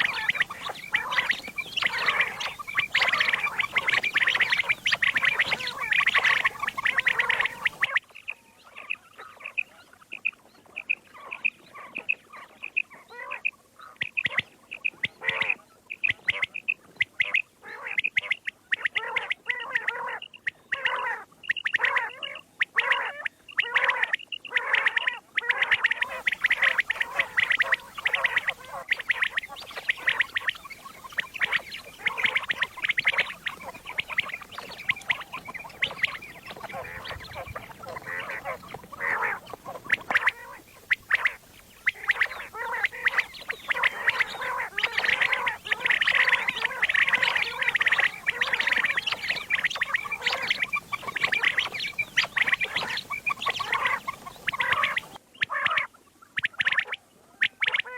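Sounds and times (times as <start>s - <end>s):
quail calling: 0.0s - 57.9s.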